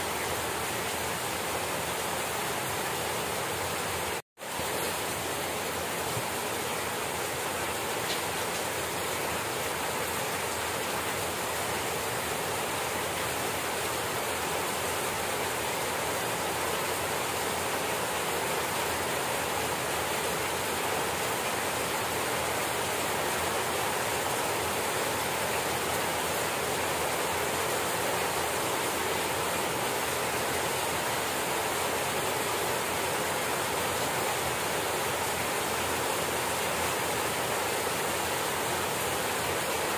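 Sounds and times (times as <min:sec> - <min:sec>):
steady rain on grass and plants: 0:00.0 - 0:39.9.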